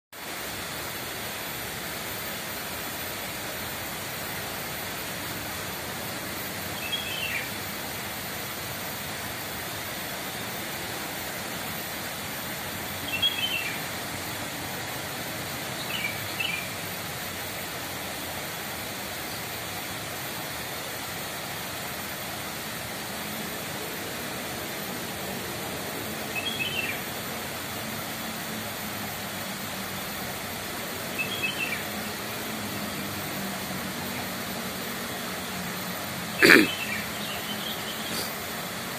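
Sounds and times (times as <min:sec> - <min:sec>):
steady outdoor hiss: 0:00.1 - 0:38.9.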